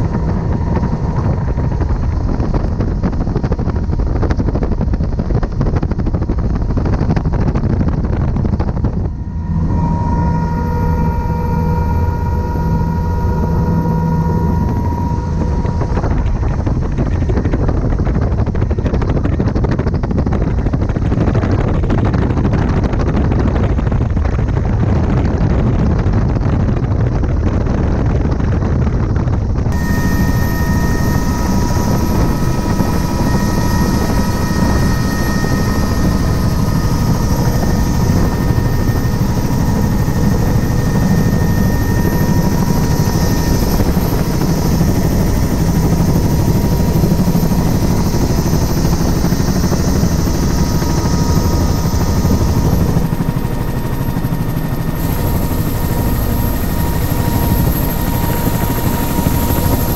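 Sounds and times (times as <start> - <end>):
high multi-tone whine: 0.0 - 25.2, 29.6 - 59.9
helicopter rotor and engine noise: 0.0 - 59.9.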